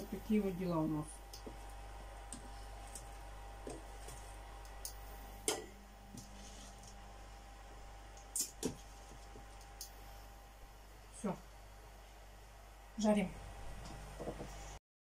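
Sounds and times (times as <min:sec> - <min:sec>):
low steady hum: 0:00.0 - 0:14.8.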